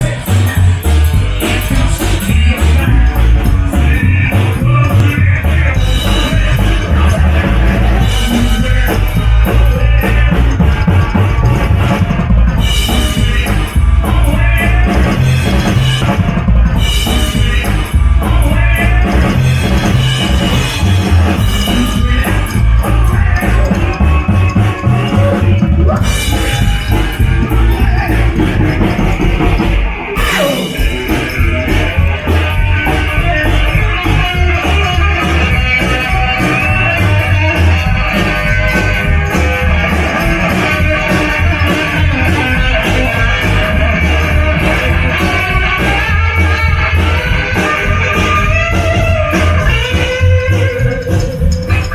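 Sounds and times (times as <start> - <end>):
bass: 0.0 - 51.9
electric guitar: 0.0 - 51.9
heavy drums: 0.0 - 51.9
person singing: 0.0 - 51.9.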